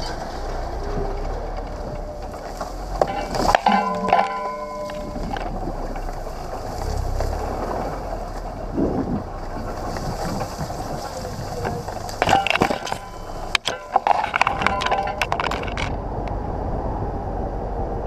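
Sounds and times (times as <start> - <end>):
reed stalks scraping and slapping: 0.0 - 16.0
vehicle engine and tyre rumble: 0.0 - 18.0.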